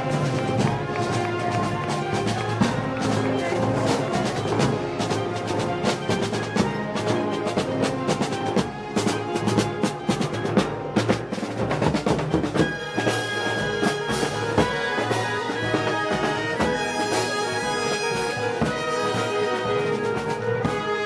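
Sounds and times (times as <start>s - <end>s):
brass sustained chords: 0.0s - 21.0s
drums beating: 0.0s - 21.0s.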